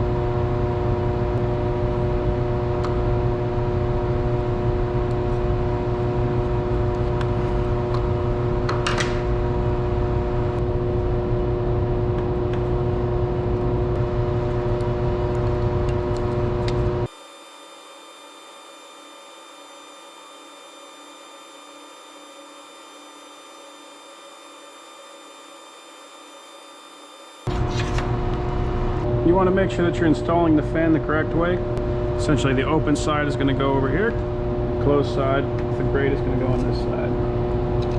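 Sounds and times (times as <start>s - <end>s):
loud machinery hum: 0.0s - 37.9s
thin hum with high tones: 0.0s - 37.9s.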